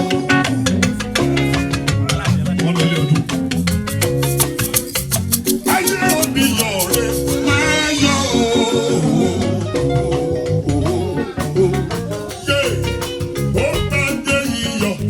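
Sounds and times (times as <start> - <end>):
rattling percussion: 0.0 - 15.0
song with plucked guitar: 0.0 - 15.0.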